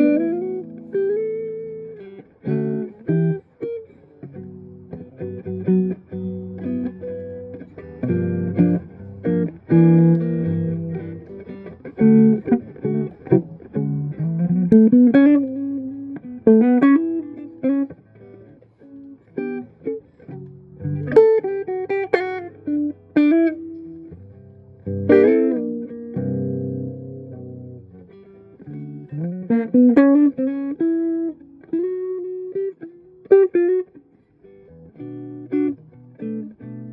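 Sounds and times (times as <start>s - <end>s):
clean electric guitar: 0.0s - 36.9s.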